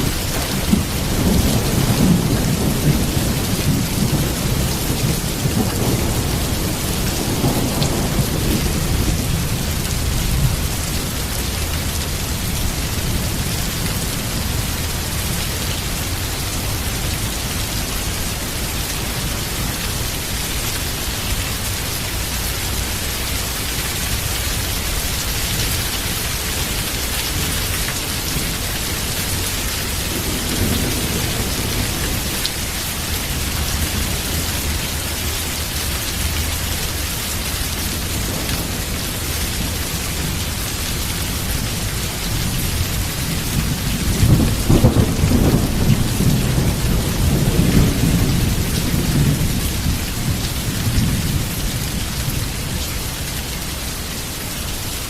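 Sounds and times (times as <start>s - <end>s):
rolling thunder: 0.0s - 20.1s, 24.1s - 35.1s, 37.7s - 52.8s
heavy rain: 0.0s - 55.0s.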